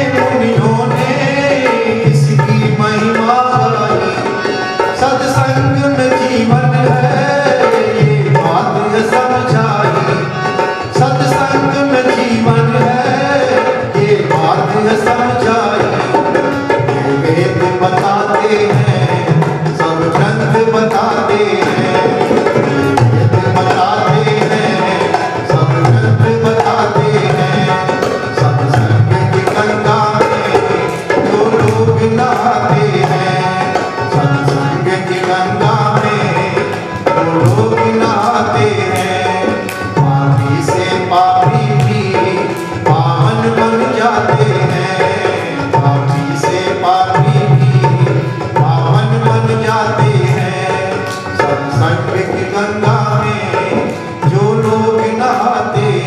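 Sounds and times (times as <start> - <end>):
tabla drumming: 0.0 - 56.0.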